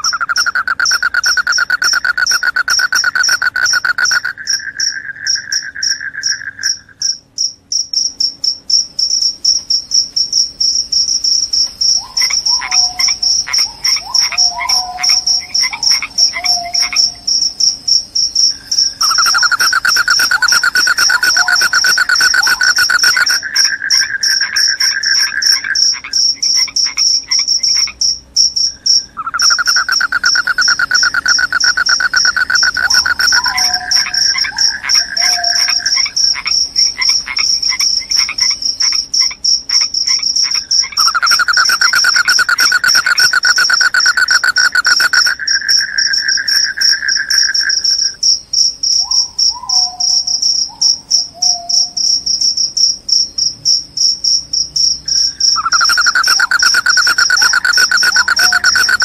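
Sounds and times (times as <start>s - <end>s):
crickets trilling: 0.0s - 59.0s
lower-pitched insect trill: 0.0s - 59.0s.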